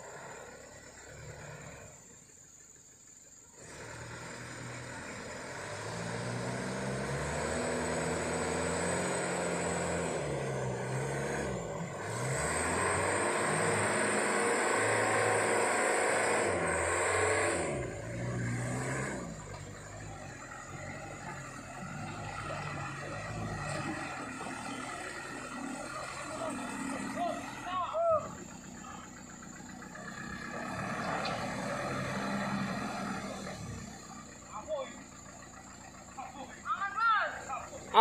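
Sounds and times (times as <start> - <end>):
truck engine labouring: 0.0 - 38.0.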